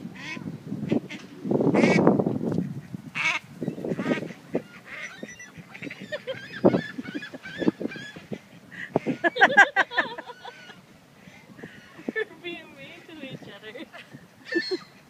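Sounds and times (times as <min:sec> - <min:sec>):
ducks quacking: 0:00.2 - 0:02.0, 0:02.6 - 0:13.8.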